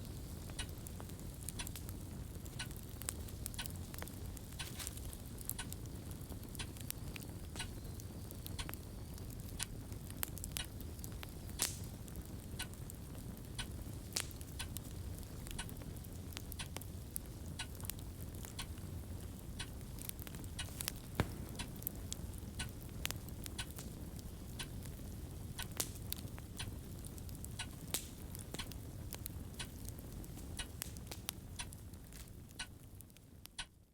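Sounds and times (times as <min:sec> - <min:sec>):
fireplace crackling: 0:00.0 - 0:33.7
fire popping and snapping: 0:00.0 - 0:33.9.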